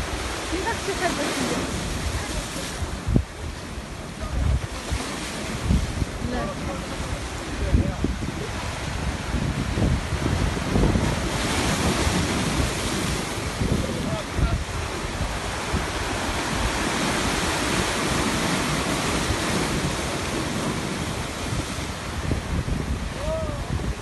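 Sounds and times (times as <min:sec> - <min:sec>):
sea waves washing onto shore: 0:00.0 - 0:24.0
wind buffeting microphone: 0:00.0 - 0:24.0.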